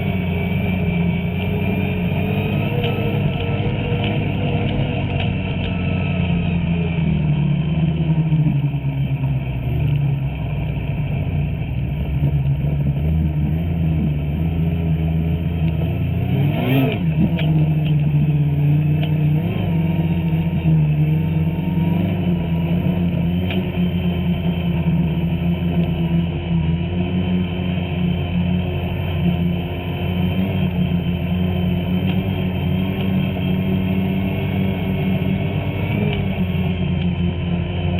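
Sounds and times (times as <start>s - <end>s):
snowmobile engine running: 0.0s - 37.9s.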